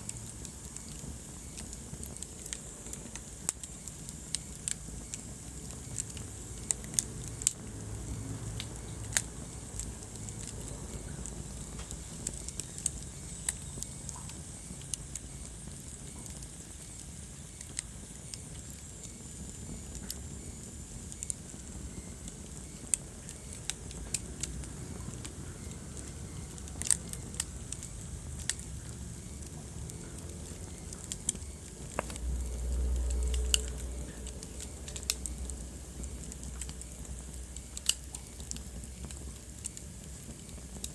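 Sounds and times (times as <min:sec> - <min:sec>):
fire pops and snaps: 0:00.0 - 0:40.9
low rumble of burning: 0:00.0 - 0:40.9.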